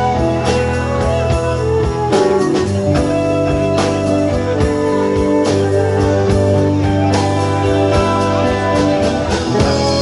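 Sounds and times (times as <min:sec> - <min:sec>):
bass guitar: 0:00.0 - 0:10.0
drum kit hits: 0:00.0 - 0:10.0
electric guitar: 0:00.0 - 0:10.0
keyboard holding long notes: 0:00.0 - 0:10.0.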